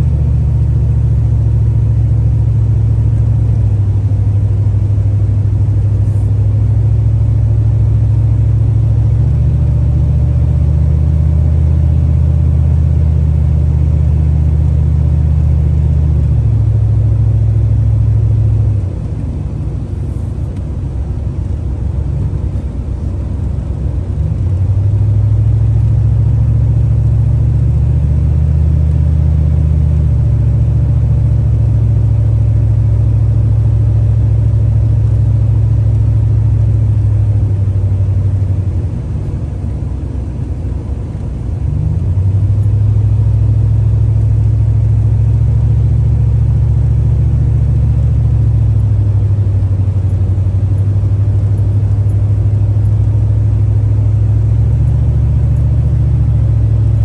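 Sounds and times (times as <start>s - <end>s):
truck engine and road drone: 0.0s - 57.0s.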